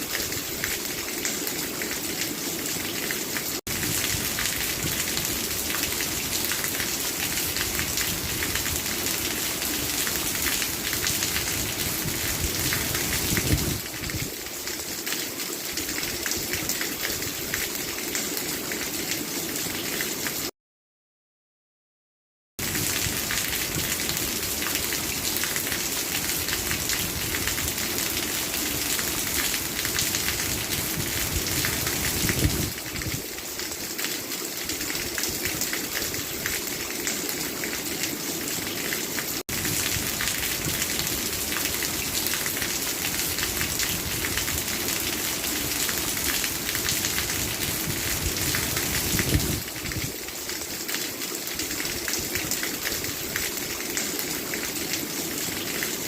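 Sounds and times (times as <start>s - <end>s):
steady rain falling: 0.0s - 20.5s, 22.6s - 56.0s.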